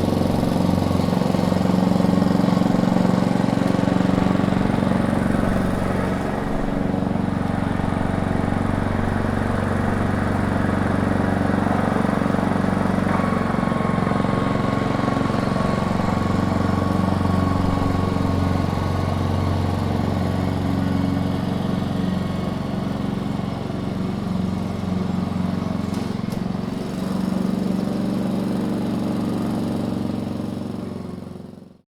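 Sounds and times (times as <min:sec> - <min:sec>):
lawnmower engine running: 0:00.0 - 0:31.8.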